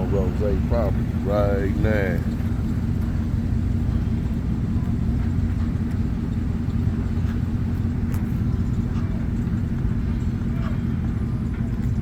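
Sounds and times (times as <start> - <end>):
vehicle driving slowly: 0.0 - 12.0.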